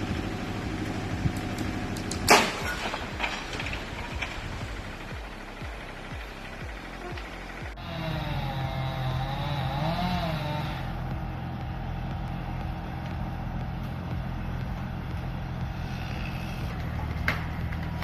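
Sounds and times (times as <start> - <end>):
engine running: 0.0 - 18.0
sharp cracks: 0.7 - 18.0.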